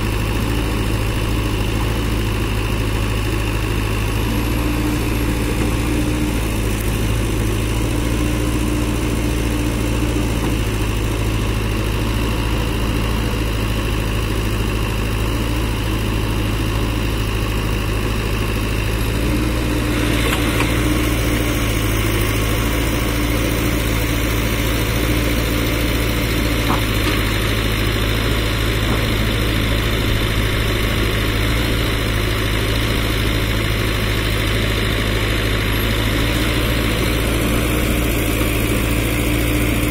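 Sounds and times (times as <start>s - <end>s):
diesel engine running: 0.0s - 39.9s
high engine tone: 0.0s - 39.9s.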